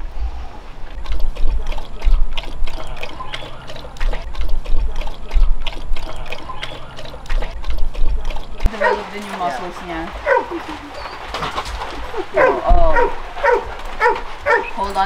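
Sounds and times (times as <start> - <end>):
dog lapping water: 0.8 - 14.8.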